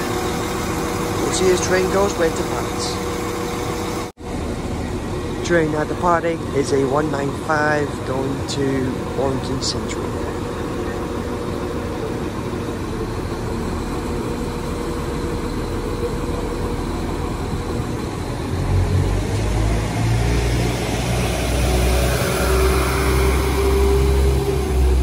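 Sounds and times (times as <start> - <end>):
diesel train engines running: 0.0 - 25.0.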